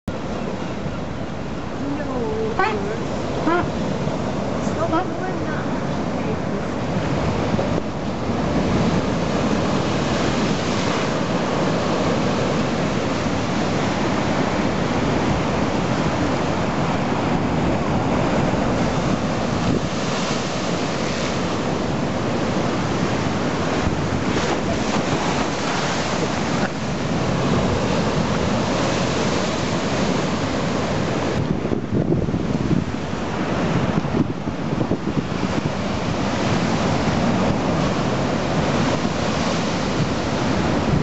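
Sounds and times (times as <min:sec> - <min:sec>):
waves breaking over harbour wall: 0:00.1 - 0:41.0
wind gusting on microphone: 0:00.1 - 0:41.0.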